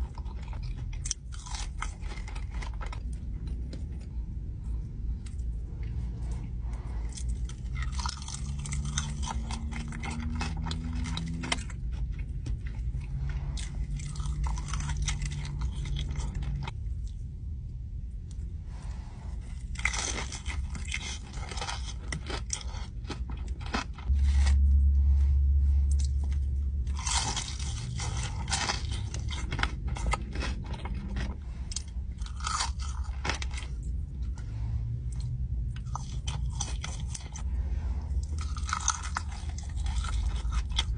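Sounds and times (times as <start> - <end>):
crunching fried chicken: 0.0 - 4.1, 6.6 - 17.2, 19.5 - 24.6, 25.7 - 40.9
loud low rumble: 0.0 - 40.9.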